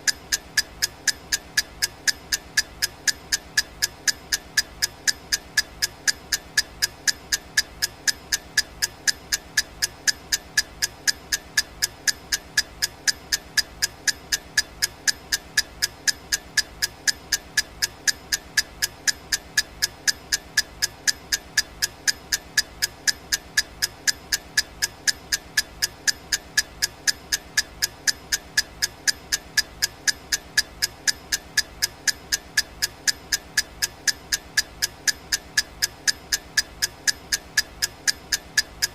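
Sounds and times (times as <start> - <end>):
clock ticking: 0.0 - 38.9.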